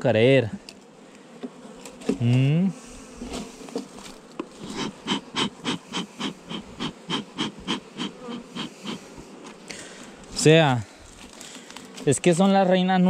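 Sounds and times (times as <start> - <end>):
bees buzzing: 0.2 - 13.0.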